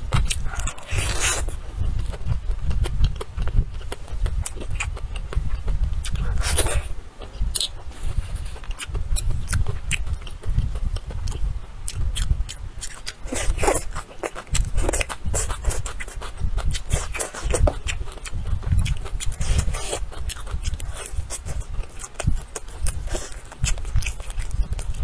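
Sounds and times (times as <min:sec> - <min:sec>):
wet chewing and lip smacking: 0:00.0 - 0:25.0.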